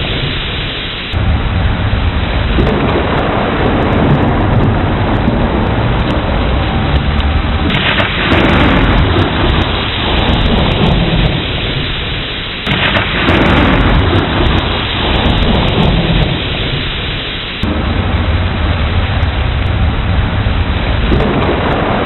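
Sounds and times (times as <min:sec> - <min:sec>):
heavy rain: 0:00.0 - 0:22.0
thunder claps rumbling: 0:00.0 - 0:22.0.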